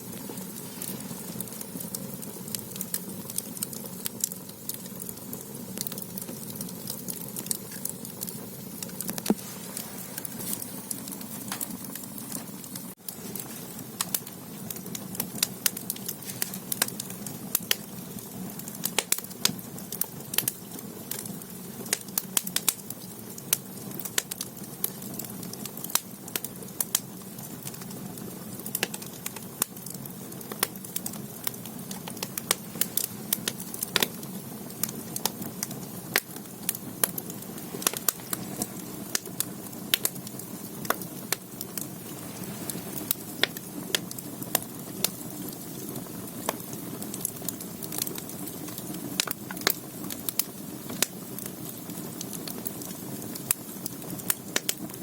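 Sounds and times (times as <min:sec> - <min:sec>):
fire crackling and popping: 0:00.0 - 0:55.0
low rumble of fire: 0:00.0 - 0:55.0.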